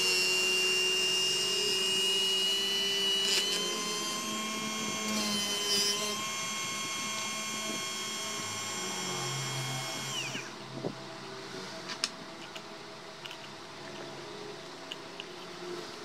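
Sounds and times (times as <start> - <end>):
motor high whine: 0.0 - 13.2.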